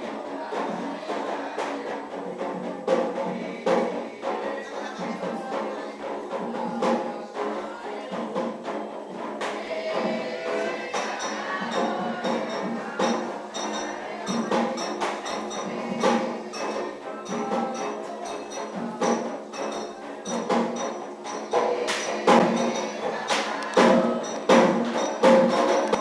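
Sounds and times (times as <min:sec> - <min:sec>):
drums: 0:00.0 - 0:26.0.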